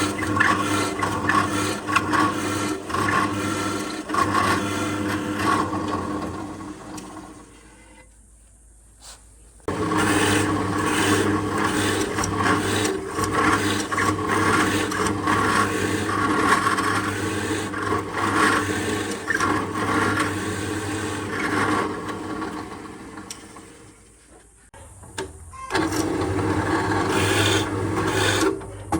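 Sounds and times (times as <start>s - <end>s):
power tool sanding wood: 0.0s - 7.8s, 9.7s - 23.8s, 26.2s - 28.6s.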